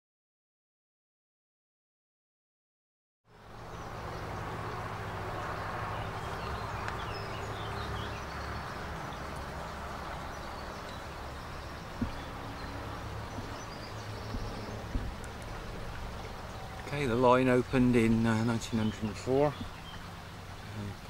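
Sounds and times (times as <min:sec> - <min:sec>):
birds chirping: 0:03.3 - 0:21.0
steady low hum: 0:03.3 - 0:21.0.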